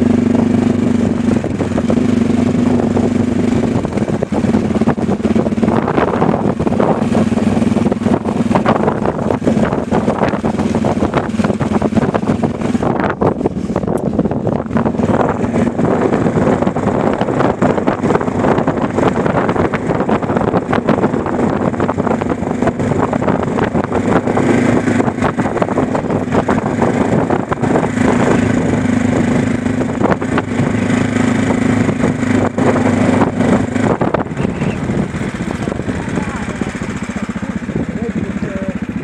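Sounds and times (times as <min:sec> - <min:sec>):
engine hum: 0:00.0 - 0:39.0
road and wind noise: 0:00.0 - 0:39.0.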